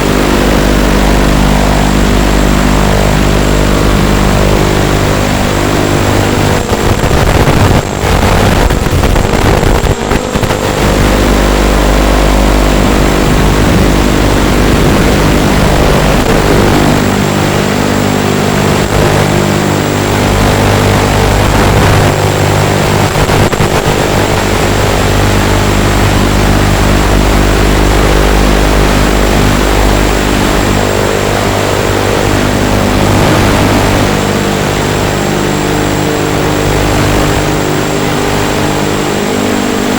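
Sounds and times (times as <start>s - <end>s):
quadcopter motors droning: 0.0s - 39.9s.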